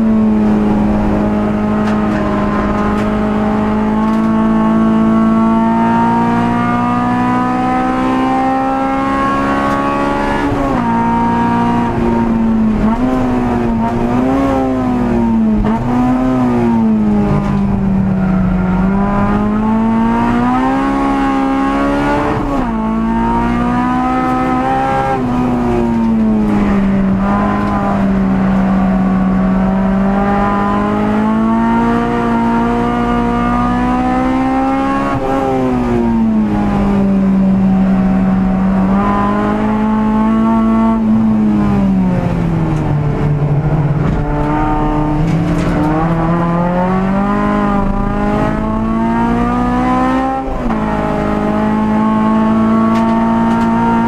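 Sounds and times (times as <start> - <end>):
car engine revving under load: 0.0 - 54.0.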